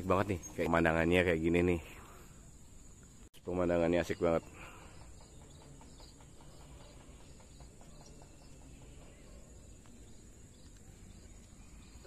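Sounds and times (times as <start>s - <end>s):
high insect hum: 0.0s - 12.0s.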